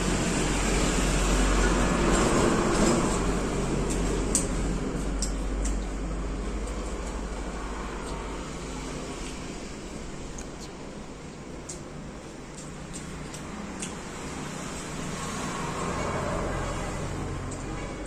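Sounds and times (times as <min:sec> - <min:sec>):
steady rumbling background noise: 0:00.0 - 0:18.0.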